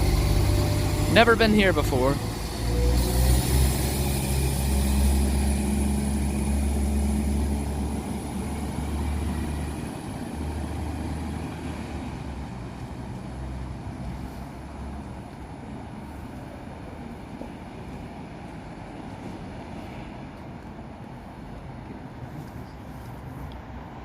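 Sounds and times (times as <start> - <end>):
train engines droning: 0.0 - 24.0.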